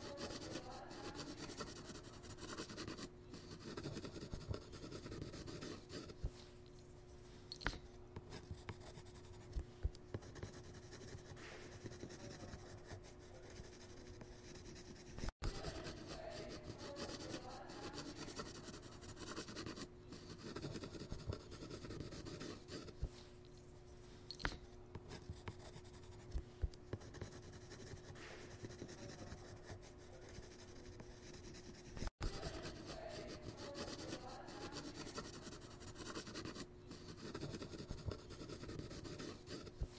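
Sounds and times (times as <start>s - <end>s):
stylus scratching on surface: 0.0s - 6.5s, 7.6s - 23.2s, 24.4s - 39.9s
steady low hum: 0.0s - 39.9s.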